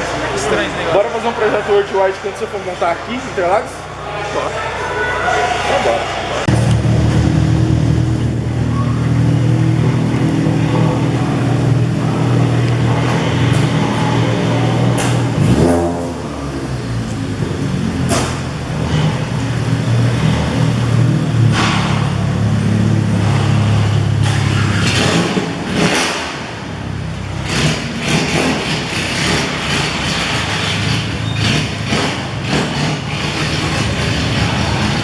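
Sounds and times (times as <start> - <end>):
car engine revving: 5.6 - 35.0.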